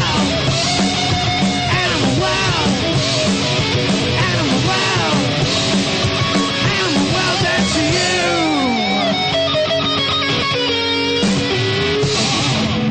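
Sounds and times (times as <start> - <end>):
punk rock band playing live: 0.0 - 12.9.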